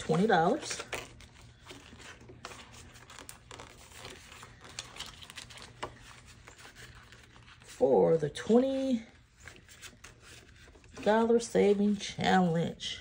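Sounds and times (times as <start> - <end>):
paper bills rustling: 0.0 - 7.8, 8.5 - 12.2.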